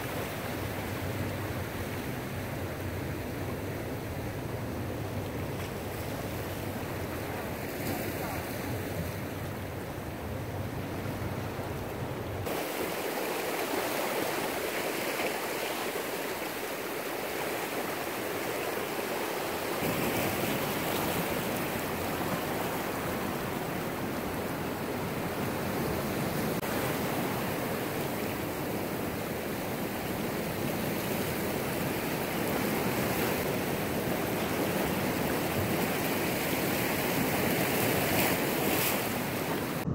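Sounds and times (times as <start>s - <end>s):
surf washing over rocks: 0.0s - 39.9s.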